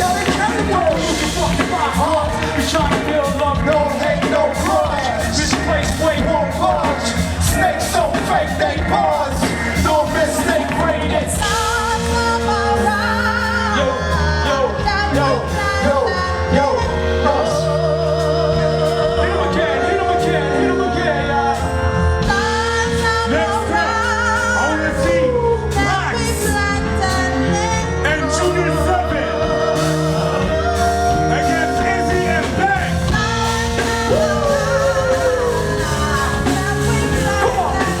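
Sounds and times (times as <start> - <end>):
steady bass line: 0.0 - 38.0.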